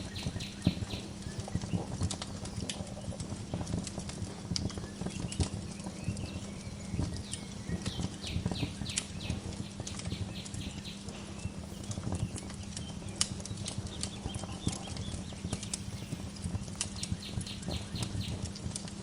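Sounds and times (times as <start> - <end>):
bird chirps: 0.0 - 3.7, 4.4 - 18.5
wood fire crackling: 0.0 - 19.0.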